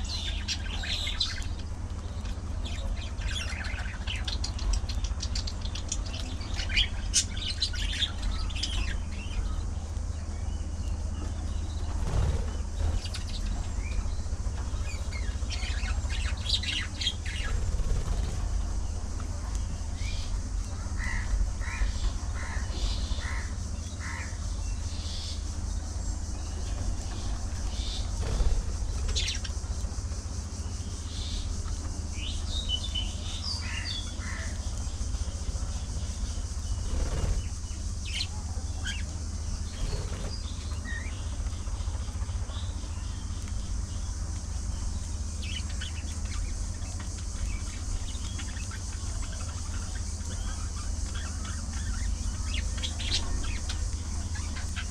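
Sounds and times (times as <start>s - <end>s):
budgerigars chirping and chattering: 0.0s - 9.7s, 10.6s - 54.9s
steady low rumble: 0.0s - 54.9s.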